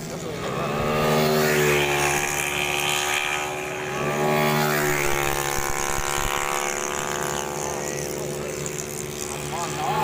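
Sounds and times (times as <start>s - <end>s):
scooter engines buzzing: 0.0s - 10.0s.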